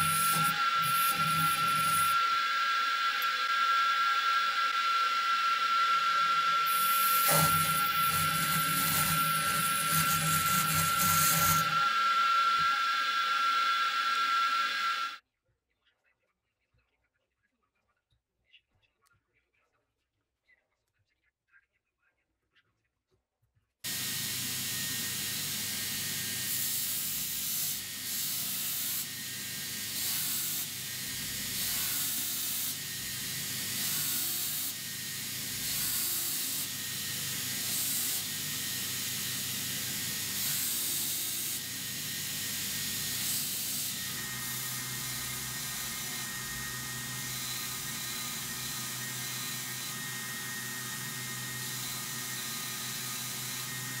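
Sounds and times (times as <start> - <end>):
belt grinder grinding steel: 0.0 - 15.2, 23.9 - 54.0
grinder motor hum: 0.0 - 15.2, 23.9 - 54.0.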